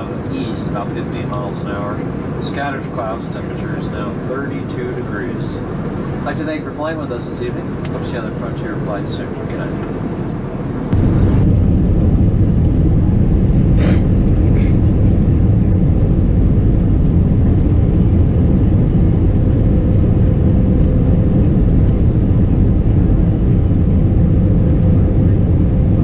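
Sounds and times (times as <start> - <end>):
airliner engines rumbling in flight: 0.0 - 26.0.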